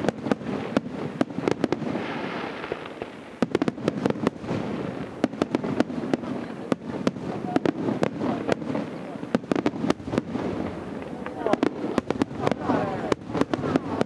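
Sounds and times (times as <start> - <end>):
fireworks bangs: 0.0 - 14.0
fireworks hissing crackle: 0.0 - 14.0.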